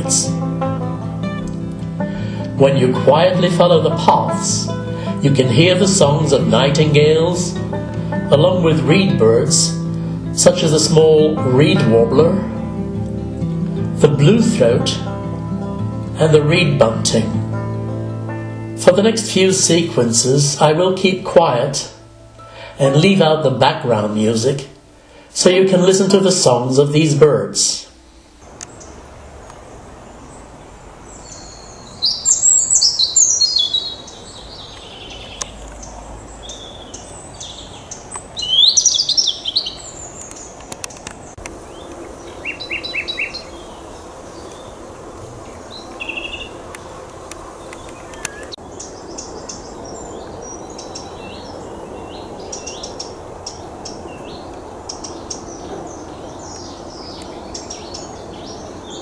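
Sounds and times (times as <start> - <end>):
songbirds singing: 0.0 - 59.0
steady low background noise: 0.0 - 59.0.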